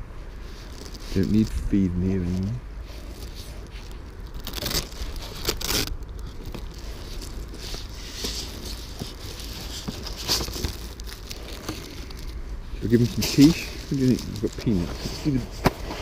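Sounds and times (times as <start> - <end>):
rustling and crinkling handling noise: 0.0 - 16.0
steady low rumble: 0.0 - 16.0.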